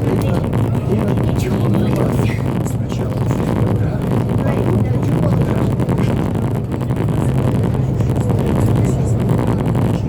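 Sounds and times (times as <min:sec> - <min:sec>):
low engine drone: 0:00.0 - 0:10.0
rushing noise: 0:00.0 - 0:10.0.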